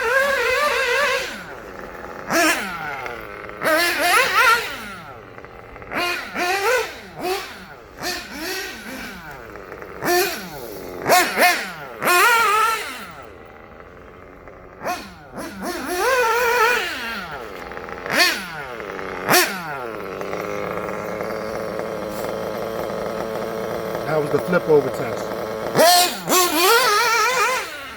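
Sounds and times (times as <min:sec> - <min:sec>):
model buggy engine revving: 0:00.0 - 0:27.9.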